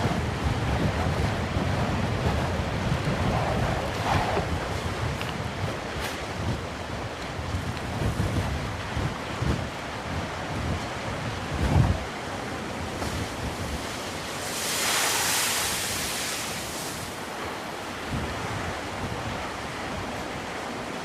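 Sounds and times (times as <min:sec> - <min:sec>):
waves washing on shore: 0:00.0 - 0:21.0
wind buffeting microphone: 0:00.0 - 0:21.0.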